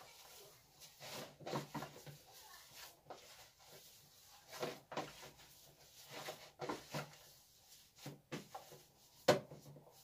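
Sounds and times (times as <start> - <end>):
hands kneading minced meat: 0.0 - 10.0.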